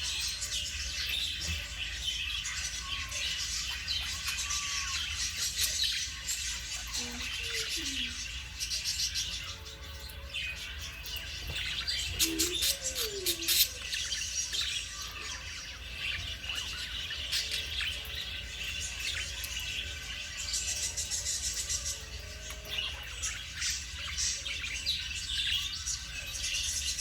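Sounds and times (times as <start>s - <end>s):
budgerigars chirping: 0.0s - 27.0s.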